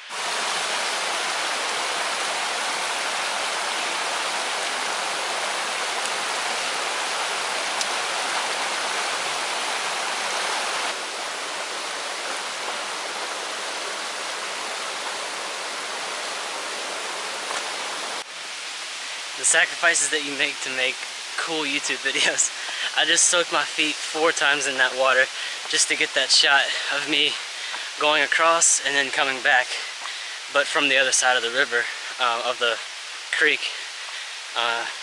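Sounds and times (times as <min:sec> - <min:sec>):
creek rushing over stones: 0:00.0 - 0:35.0.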